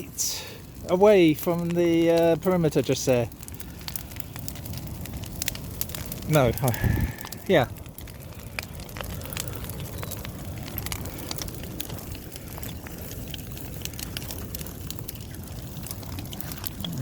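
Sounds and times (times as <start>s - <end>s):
bonfire crackling and popping: 0.0s - 17.0s
fire low rumble: 0.0s - 17.0s.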